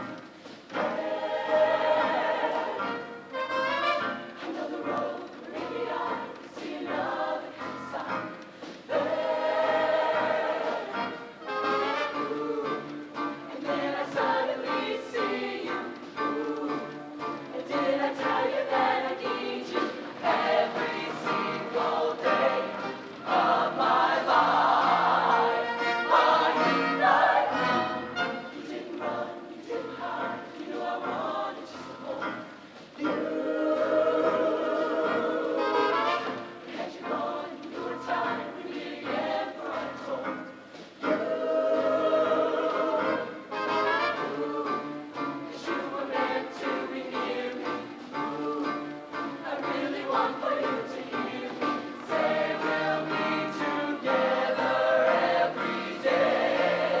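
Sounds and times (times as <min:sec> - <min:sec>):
mixed-voice choir singing: 0:00.7 - 0:57.0.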